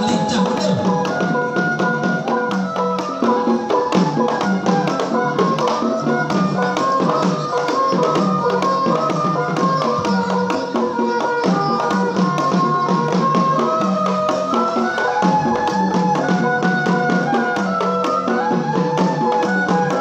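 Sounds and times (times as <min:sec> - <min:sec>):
hand drums: 0:00.0 - 0:20.0.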